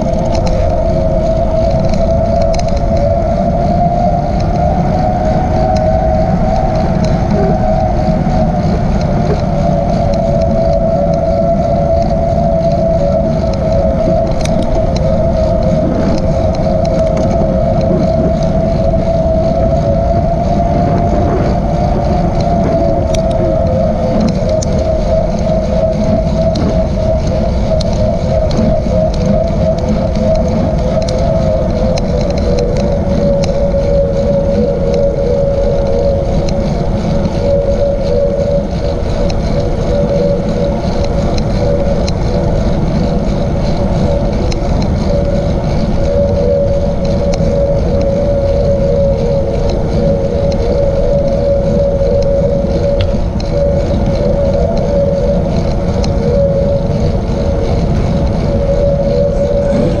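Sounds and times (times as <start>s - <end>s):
mid-pitched whine: 0.0s - 60.0s
wind rumble on microphone: 0.0s - 60.0s.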